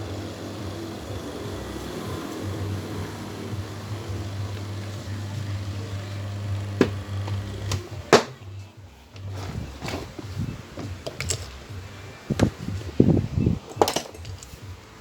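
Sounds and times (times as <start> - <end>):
electric fan motor humming: 0.0 - 15.0.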